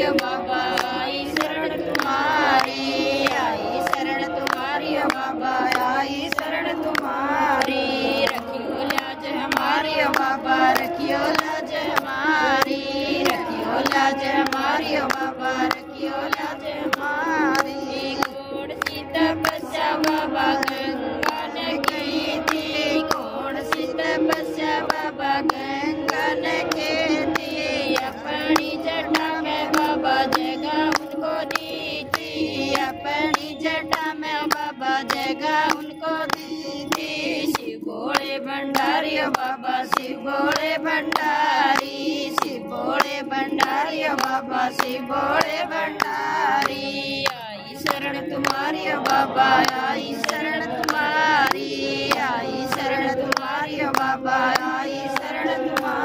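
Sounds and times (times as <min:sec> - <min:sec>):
hands clapping: 0:00.0 - 0:56.0
women singing devotional song: 0:00.0 - 0:56.0.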